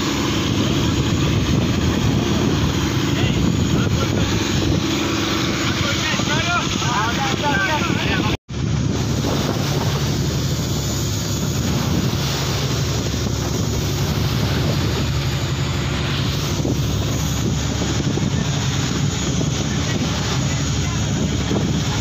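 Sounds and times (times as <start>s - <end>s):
boat engine running: 0.0s - 22.0s
water splashing along hull: 0.0s - 22.0s.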